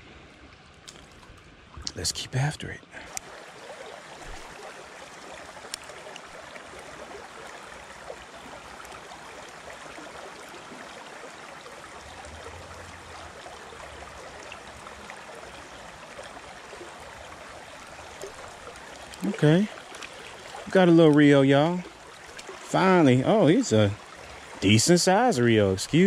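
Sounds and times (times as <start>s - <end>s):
creek water flowing over rocks: 0.0s - 26.0s.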